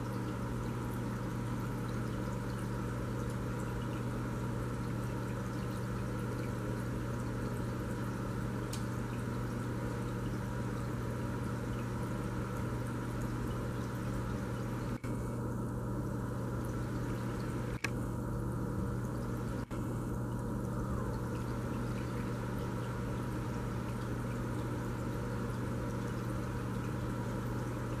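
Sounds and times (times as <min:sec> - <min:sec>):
low even hum: 0:00.0 - 0:28.0
water trickling: 0:00.0 - 0:28.0.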